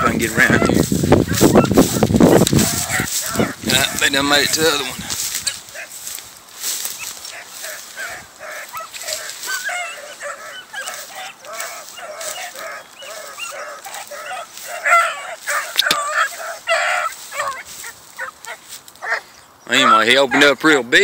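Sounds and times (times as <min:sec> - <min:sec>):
hounds baying and yelping: 0:00.0 - 0:21.0.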